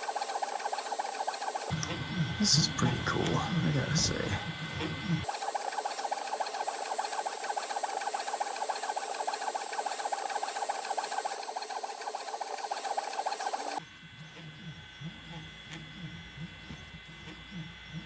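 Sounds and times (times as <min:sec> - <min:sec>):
printer stepper motors whirring: 0:00.0 - 0:18.0.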